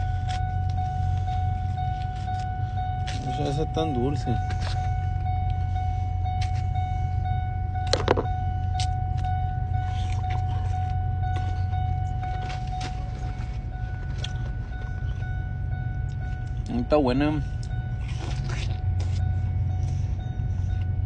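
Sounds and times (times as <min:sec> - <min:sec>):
steady high tone: 0:00.0 - 0:21.0
vehicle engine rumbling: 0:00.0 - 0:21.0.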